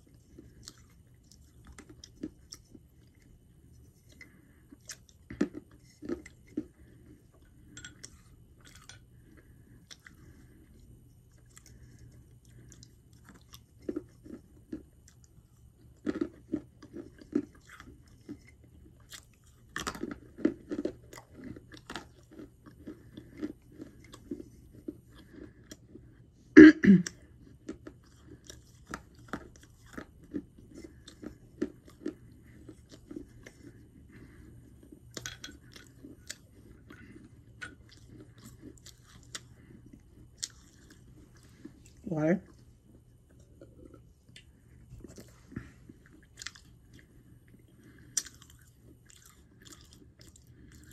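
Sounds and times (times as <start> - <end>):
person chewing hard clay crunches: 0.0 - 50.9.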